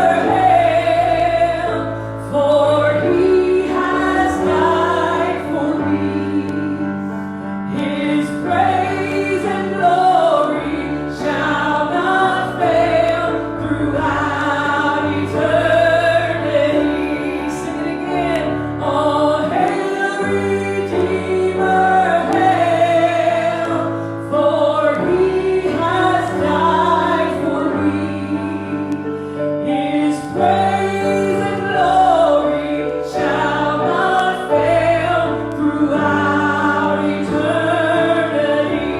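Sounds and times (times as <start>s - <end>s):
group of voices singing: 0.0s - 38.9s.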